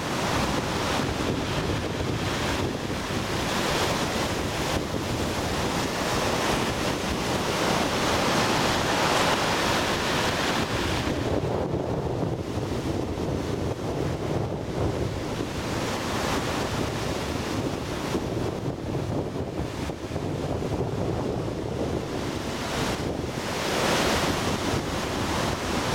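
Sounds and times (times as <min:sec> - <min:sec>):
surf breaking ashore: 0:00.0 - 0:25.9
wind buffeting microphone: 0:00.0 - 0:25.9.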